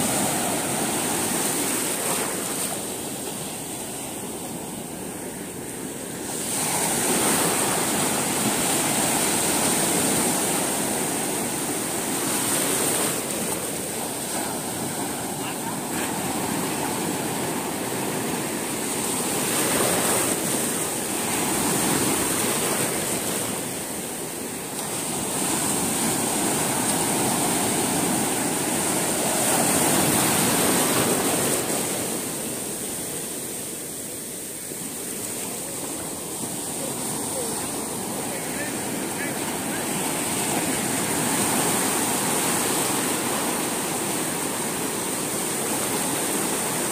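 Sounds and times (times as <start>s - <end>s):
waves breaking: 0.0s - 46.9s.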